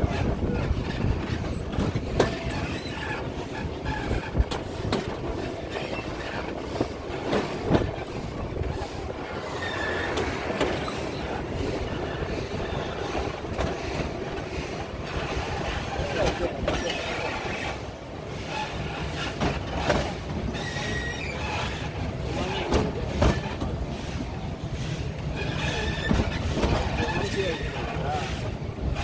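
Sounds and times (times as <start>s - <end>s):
wheel squeal: 0.0s - 4.7s, 5.3s - 8.2s, 9.3s - 17.8s, 18.4s - 23.7s, 25.3s - 29.0s
train carriages rumbling on rails: 0.0s - 29.0s
wheels and couplings clanking: 0.0s - 29.0s.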